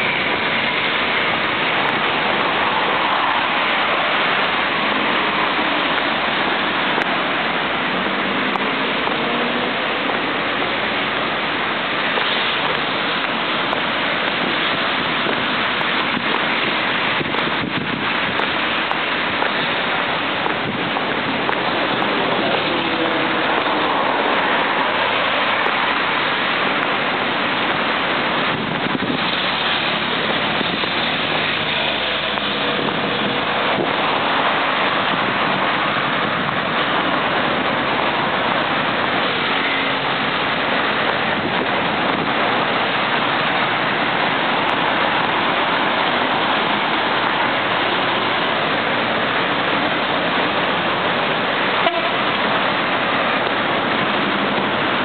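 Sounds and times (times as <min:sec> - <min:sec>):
road traffic hiss: 0:00.0 - 0:55.0.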